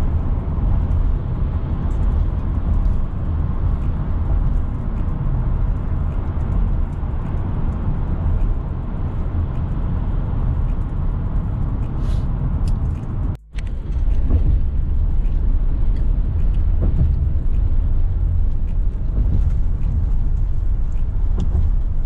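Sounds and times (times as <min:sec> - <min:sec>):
car road and tyre noise: 0:00.0 - 0:22.0.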